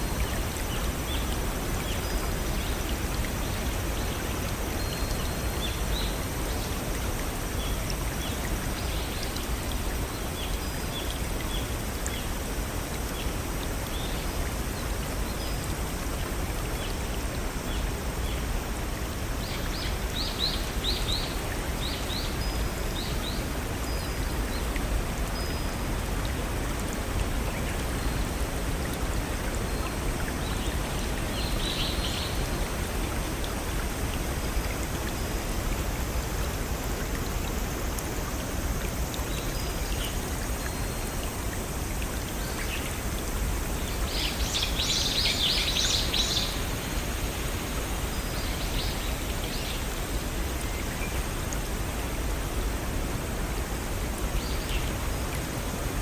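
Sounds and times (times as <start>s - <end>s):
waterfall and brook running: 0.0s - 56.0s.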